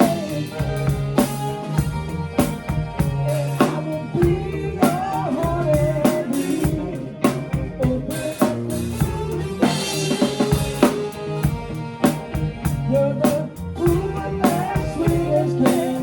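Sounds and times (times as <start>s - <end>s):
drum kit playing a steady beat: 0.0s - 16.0s
held bass and melody notes: 0.0s - 16.0s.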